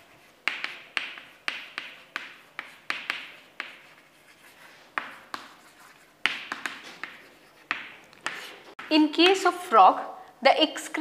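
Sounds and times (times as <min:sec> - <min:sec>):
chalk tapping and scratching on chalkboard: 0:00.0 - 0:09.0.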